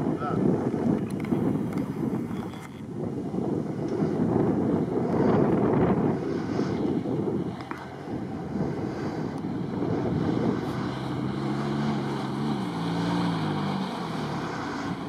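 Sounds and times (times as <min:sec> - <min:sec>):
off-road vehicle engine: 0:00.0 - 0:15.0
wind rumble on microphone: 0:00.0 - 0:15.0.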